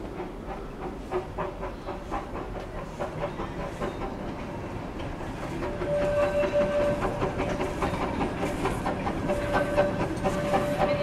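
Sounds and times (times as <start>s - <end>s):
steam locomotive exhaust beats: 0.0s - 11.0s.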